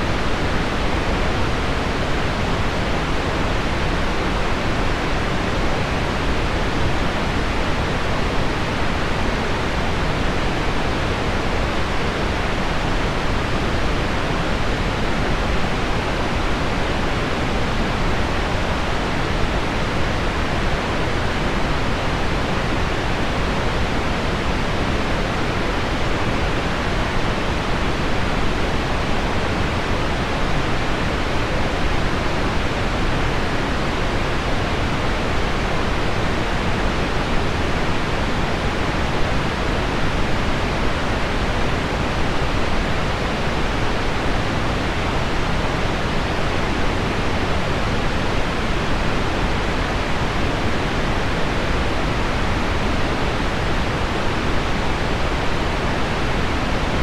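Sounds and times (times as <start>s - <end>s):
pink noise: 0.0s - 57.0s.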